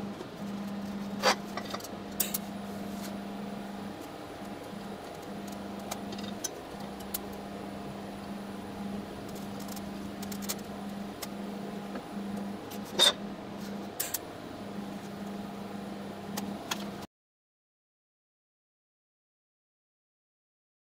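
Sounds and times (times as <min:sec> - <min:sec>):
welding arc humming: 0:00.0 - 0:17.1.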